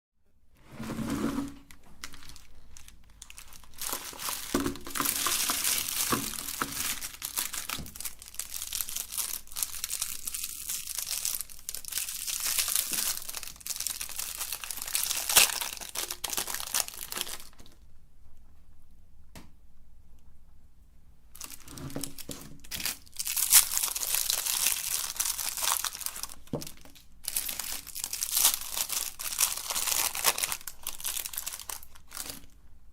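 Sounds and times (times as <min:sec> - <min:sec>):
candy crinkling and crunching: 0:01.6 - 0:17.8, 0:21.4 - 0:32.6.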